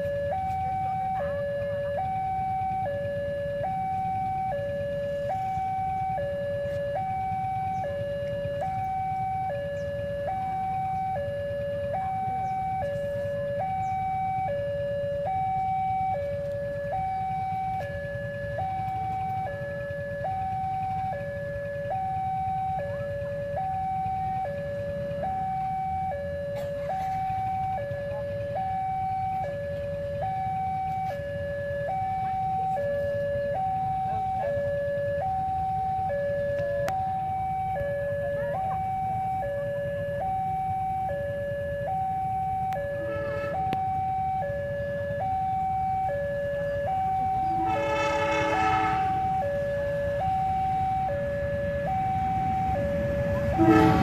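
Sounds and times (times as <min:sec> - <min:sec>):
two-tone crossing alarm: 0:00.0 - 0:54.0.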